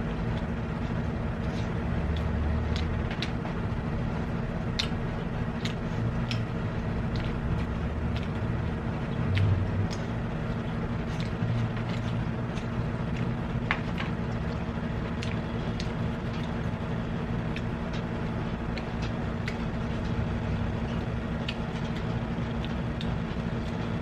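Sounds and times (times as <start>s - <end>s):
chewing and utensil clicks: 1.5s - 3.4s, 4.7s - 16.7s, 17.5s - 23.9s.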